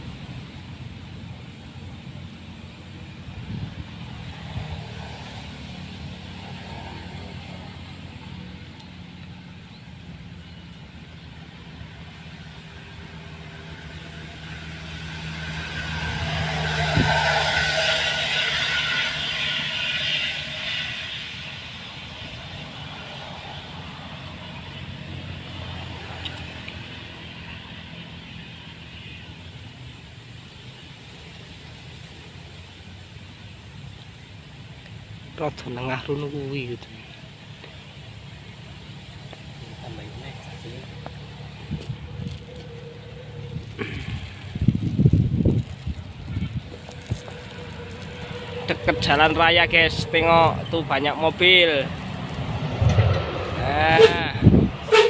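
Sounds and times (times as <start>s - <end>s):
low engine hum: 0.0s - 55.0s
vehicle passing by: 0.0s - 55.0s.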